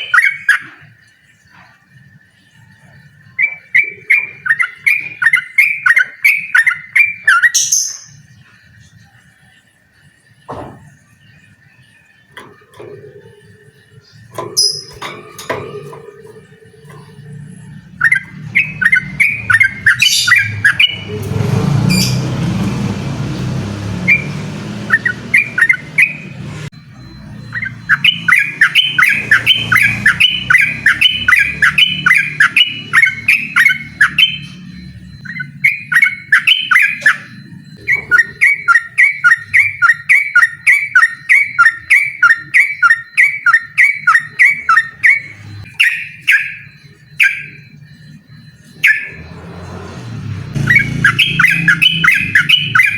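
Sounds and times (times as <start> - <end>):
bird singing chattering notes: 0.0 - 52.9.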